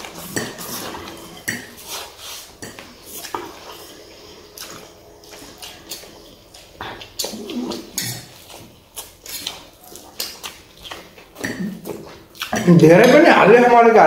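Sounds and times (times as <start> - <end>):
noodles being slurped: 0.0 - 12.7.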